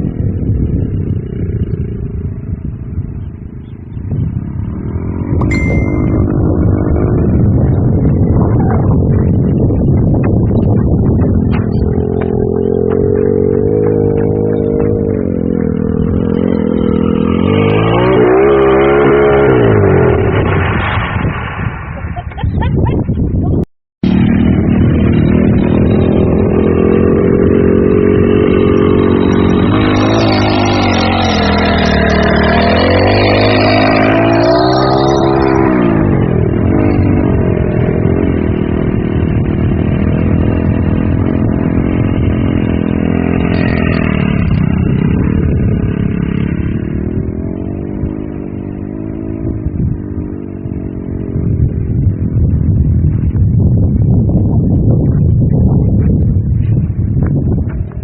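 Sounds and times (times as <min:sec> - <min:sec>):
buggy engine running hard: 0:00.0 - 0:58.0.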